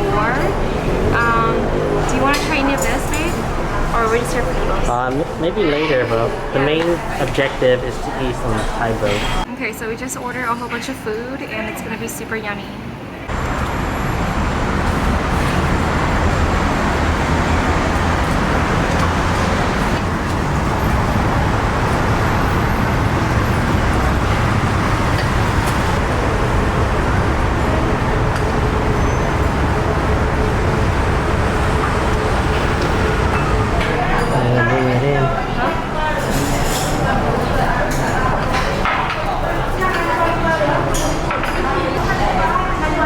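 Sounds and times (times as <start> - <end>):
busy road traffic: 0.0 - 9.5, 12.9 - 43.0.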